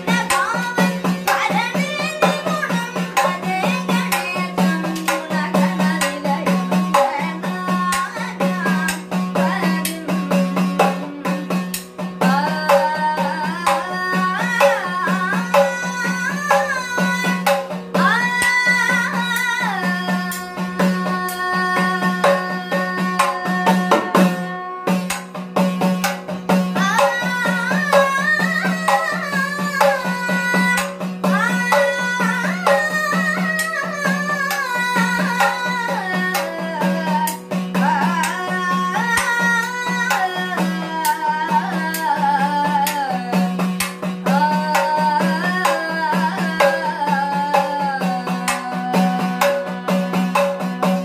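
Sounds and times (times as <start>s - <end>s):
boy singing: 0.0s - 51.0s.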